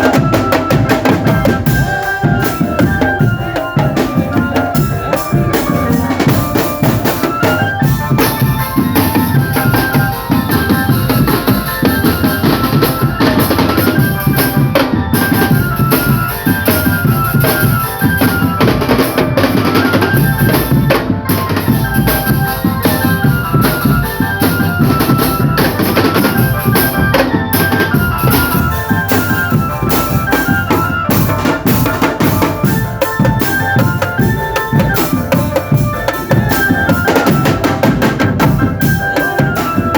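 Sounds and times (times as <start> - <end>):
melody of short notes: 0.0 - 39.9
snare and bass drums: 0.0 - 39.9.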